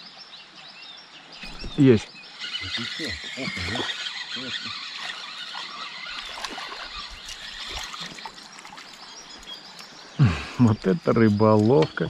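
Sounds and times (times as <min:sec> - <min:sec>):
birds chirping: 0:00.0 - 0:12.0
water trickling and splashing: 0:01.4 - 0:12.0.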